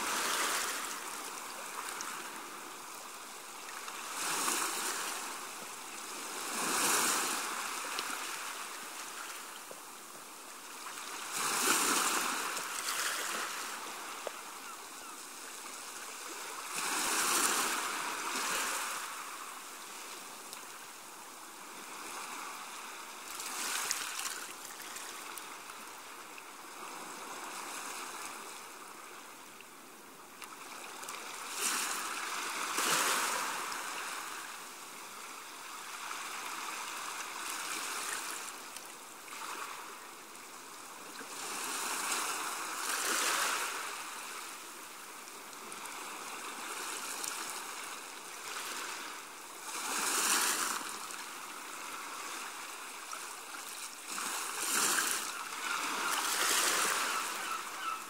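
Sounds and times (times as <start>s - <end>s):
small waves washing ashore: 0.0s - 58.0s.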